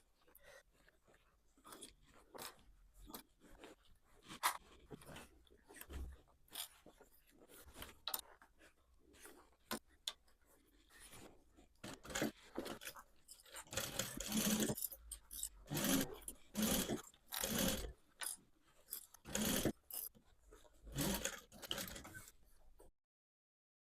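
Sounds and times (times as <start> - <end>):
denim rustling and scraping: 0.0 - 22.9.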